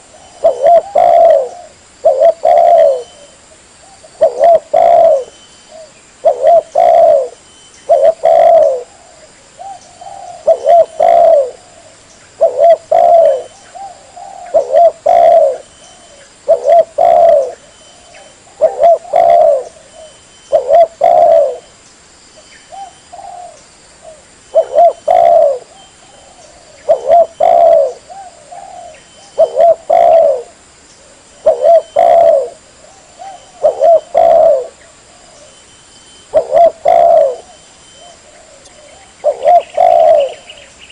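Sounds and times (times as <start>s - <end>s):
dove cooing: 0.0s - 21.7s, 22.7s - 35.6s, 36.2s - 40.9s.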